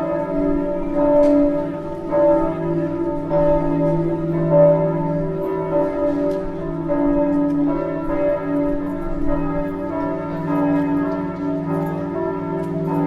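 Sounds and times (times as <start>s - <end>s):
church bells pealing: 0.0s - 13.0s.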